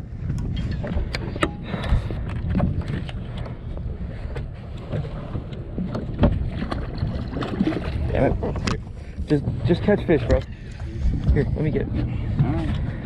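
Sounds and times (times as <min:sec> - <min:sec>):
water sloshing against boat hull: 0:00.0 - 0:13.0
wind rumbling on microphone: 0:00.0 - 0:13.0.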